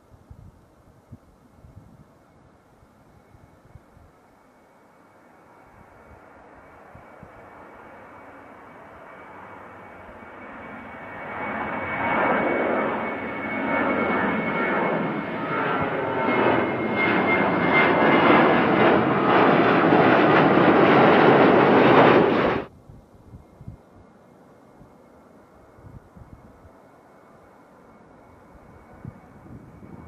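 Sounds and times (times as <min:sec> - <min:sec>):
jet engine roar and whine: 0:02.7 - 0:22.7, 0:23.4 - 0:30.0.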